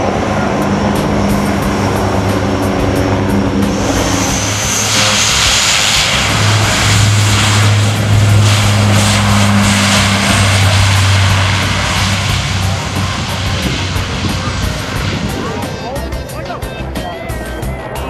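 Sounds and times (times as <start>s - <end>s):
aircraft propellers humming: 0.0s - 18.0s
turboprop engine rush: 0.0s - 18.0s.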